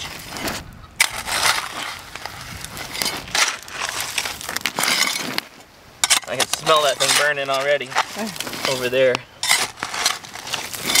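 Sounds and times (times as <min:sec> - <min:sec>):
metal shovel scraping gravel: 0:00.0 - 0:11.0.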